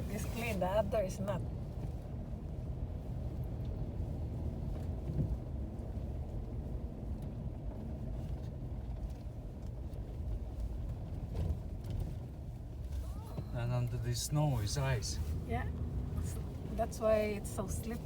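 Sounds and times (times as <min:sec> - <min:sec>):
car engine and tyre noise: 0:00.0 - 0:18.0.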